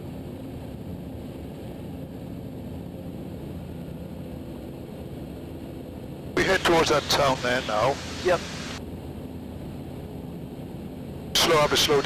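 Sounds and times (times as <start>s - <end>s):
muffled aircraft engine droning: 0.0s - 12.0s.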